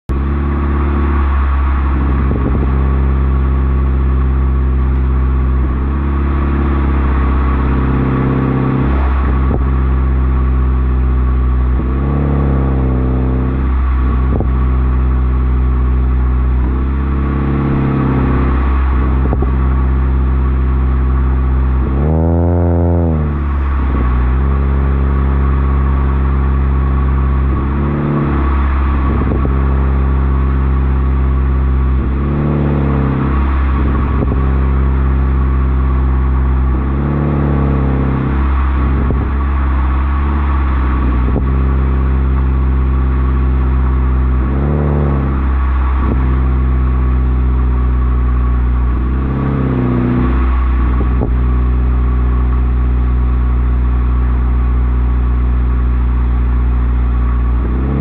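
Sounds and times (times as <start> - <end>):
car engine idling and revving: 0.0 - 58.0
exhaust crackles and pops: 0.0 - 58.0.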